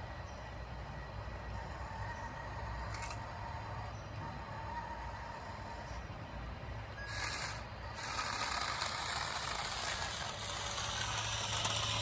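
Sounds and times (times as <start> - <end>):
small electric motors whirring: 0.7 - 6.2, 6.9 - 12.0.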